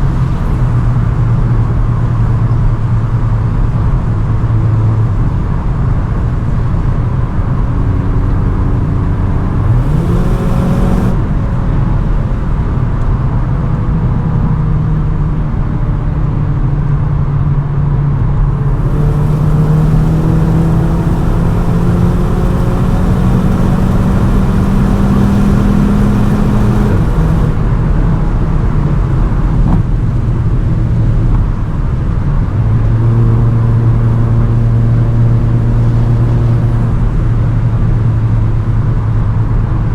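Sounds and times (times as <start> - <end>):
car engine accelerating hard: 0.0 - 39.9
wind and tyre noise: 0.0 - 39.9.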